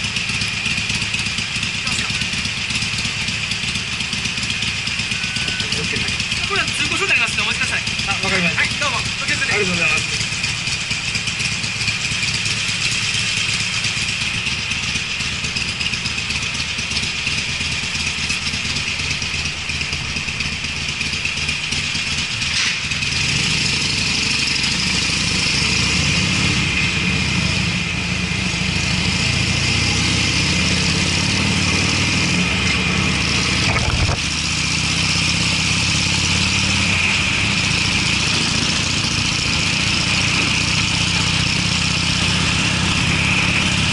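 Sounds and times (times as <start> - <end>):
motorcycle engine exhaust: 0.0 - 43.9.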